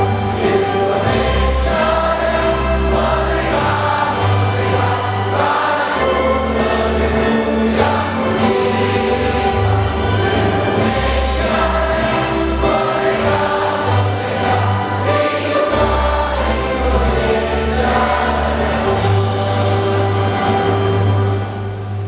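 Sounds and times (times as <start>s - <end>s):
choir singing: 0.0s - 22.0s
instrumental accompaniment: 0.0s - 22.0s.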